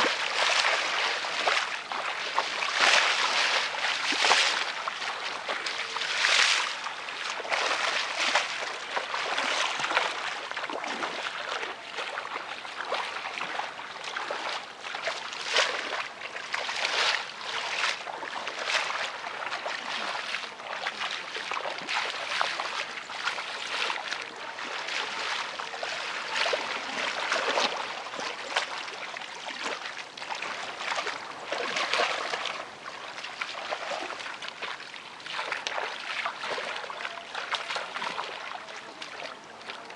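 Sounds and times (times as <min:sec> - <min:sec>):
feet sloshing through water: 0:00.0 - 0:39.9
water splashes: 0:00.0 - 0:39.9.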